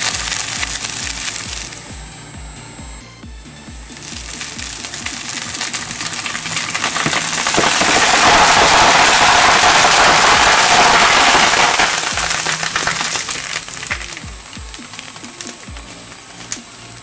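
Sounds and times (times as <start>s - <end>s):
foam beads rattling against metal blades: 0.0s - 1.9s, 3.8s - 17.0s.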